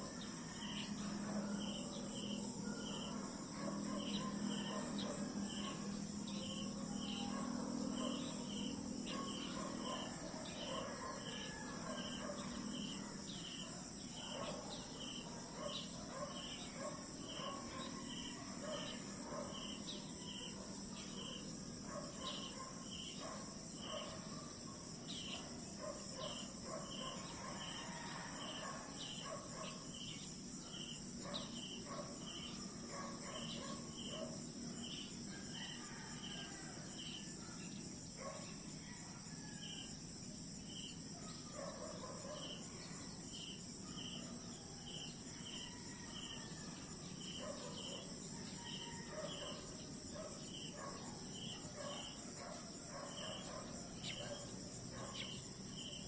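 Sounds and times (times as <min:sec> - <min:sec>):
insect chirp: 0:00.0 - 0:56.0
insects shrill hum: 0:00.0 - 0:56.0
soft low insect calls: 0:00.0 - 0:56.0.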